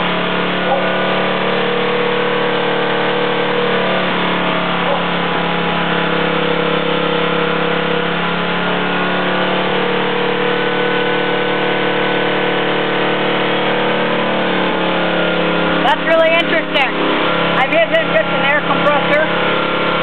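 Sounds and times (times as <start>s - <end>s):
single-cylinder engine running steadily: 0.0s - 20.0s.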